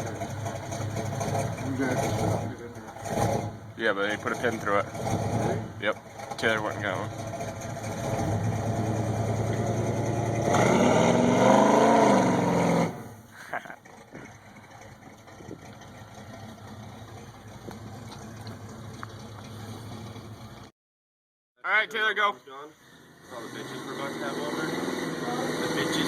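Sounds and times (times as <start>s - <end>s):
truck engine revving: 0.0s - 20.7s, 22.9s - 26.0s.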